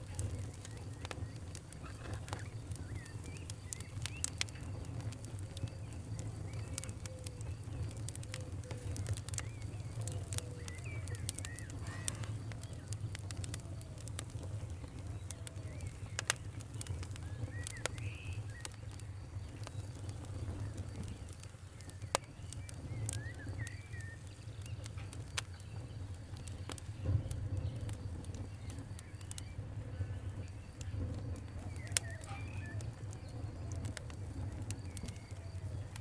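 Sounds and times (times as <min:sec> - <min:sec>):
faint bird chirps: 0:00.0 - 0:36.0
wood fire crackling: 0:00.0 - 0:36.0.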